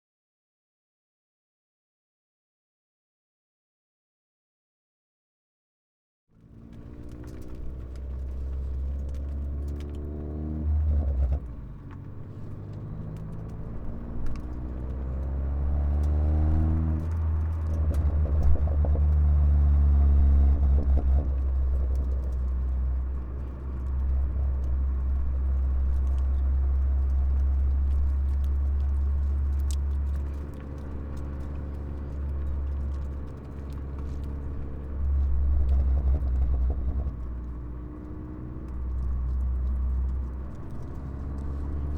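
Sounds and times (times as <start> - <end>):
car engine revving: 6.4 - 41.9
exhaust pops and crackles: 6.4 - 41.9.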